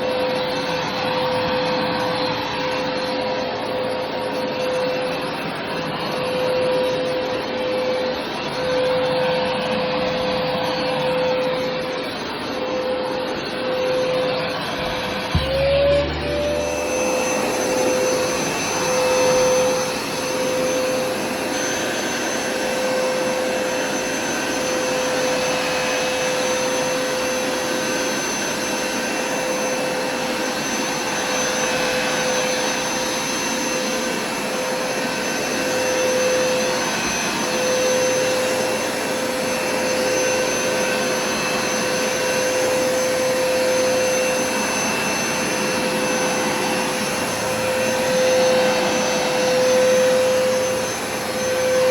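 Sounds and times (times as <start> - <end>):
carpet cleaner motor whining: 0.0 - 51.9.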